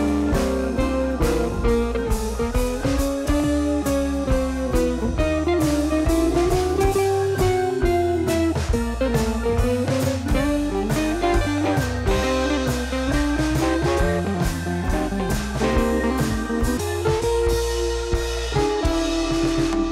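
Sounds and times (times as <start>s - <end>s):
bass: 0.0s - 19.9s
blues-rock lead guitar: 0.0s - 19.9s
drum beat: 0.0s - 19.9s.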